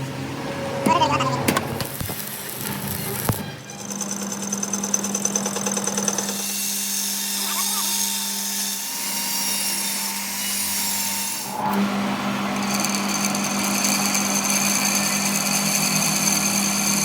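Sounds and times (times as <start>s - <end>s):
power tool humming: 1.4s - 17.0s.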